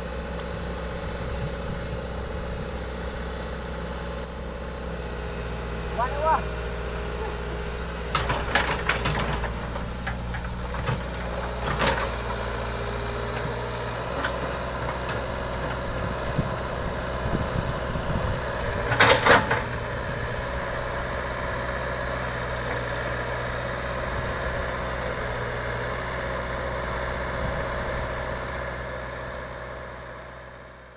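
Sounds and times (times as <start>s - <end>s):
diesel engine humming: 0.0s - 30.9s.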